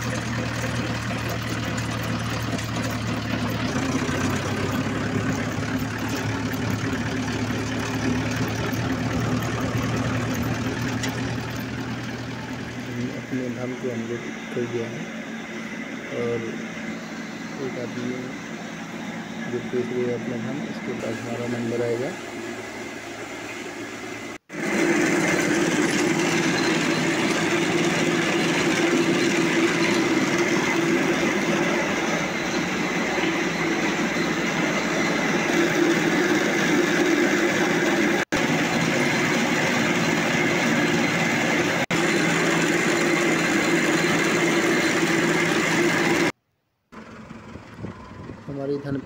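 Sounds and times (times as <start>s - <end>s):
rice mill droning: 0.0s - 46.4s.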